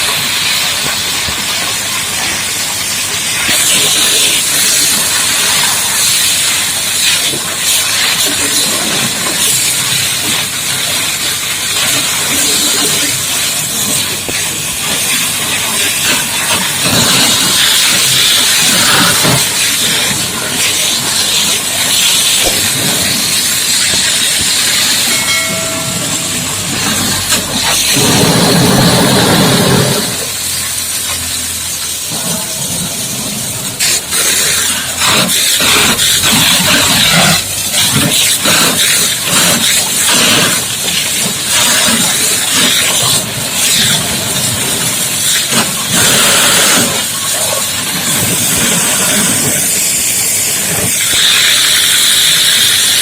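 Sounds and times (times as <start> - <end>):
high-pressure water jet spraying: 0.0 - 53.0.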